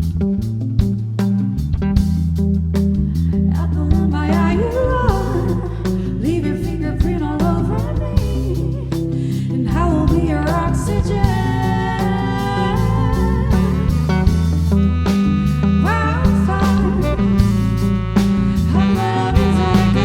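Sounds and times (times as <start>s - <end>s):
drums: 0.0s - 20.0s
electric bass notes: 0.0s - 20.0s
guitar: 0.0s - 20.0s
sliding melodic lead line: 3.7s - 20.0s.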